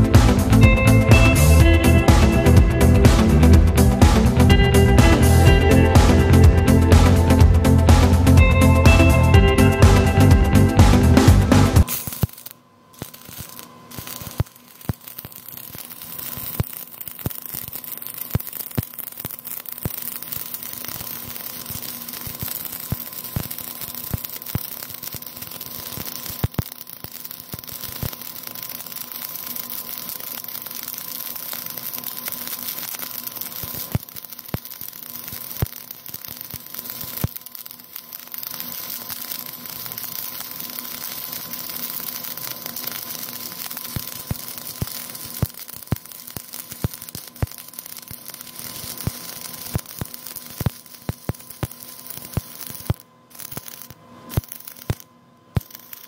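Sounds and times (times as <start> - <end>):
welding arc crackling and popping: 0.0 - 56.0.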